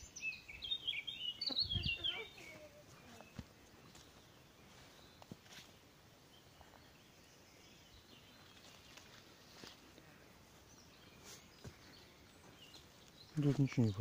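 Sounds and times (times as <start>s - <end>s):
faint bird chirps: 0.0s - 14.0s
faint garden ambience: 0.0s - 14.0s.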